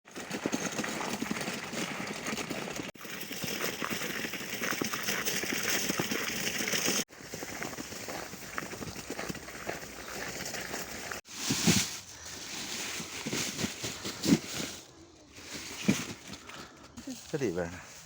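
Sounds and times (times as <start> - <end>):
dry corn plants rustling: 0.2 - 18.0.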